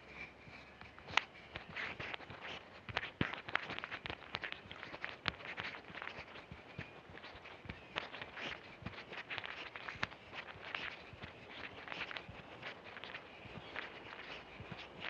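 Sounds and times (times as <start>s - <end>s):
footsteps on asphalt: 0.6s - 15.0s.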